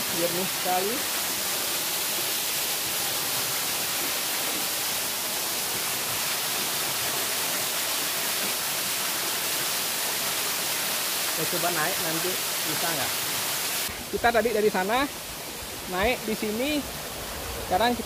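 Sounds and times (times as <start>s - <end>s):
waterfall rushing onto rocks: 0.0s - 18.0s.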